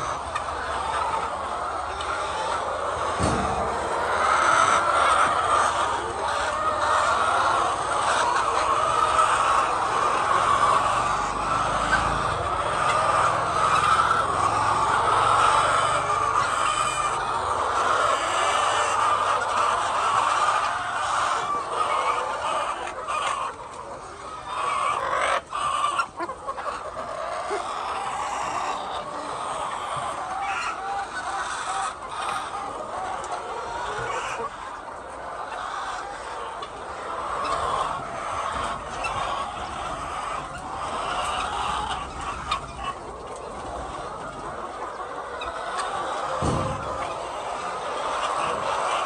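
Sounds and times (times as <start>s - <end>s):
flock of hens clucking: 0.0s - 49.0s.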